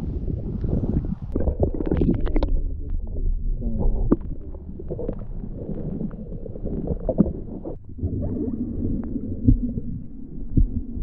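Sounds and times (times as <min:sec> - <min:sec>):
muffled underwater gurgling: 0:00.0 - 0:11.0.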